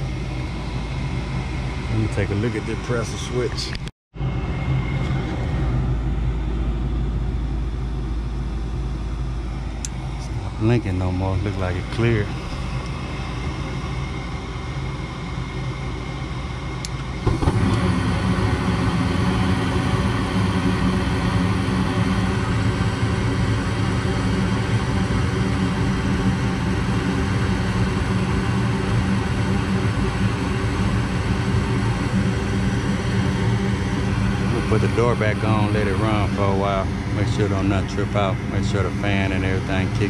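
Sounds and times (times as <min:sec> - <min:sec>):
gas furnace humming and rumbling: 0:00.0 - 0:40.0.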